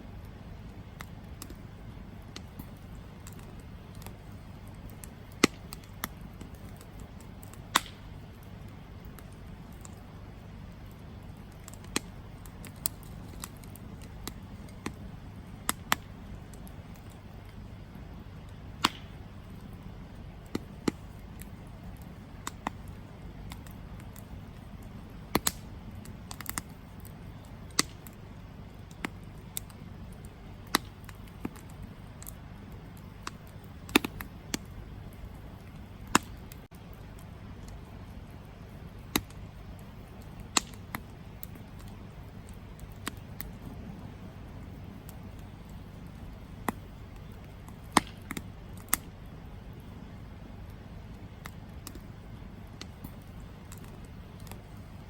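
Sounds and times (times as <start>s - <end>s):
campfire crackling and popping: 0.0s - 55.0s
low rumble of flames: 0.0s - 55.0s.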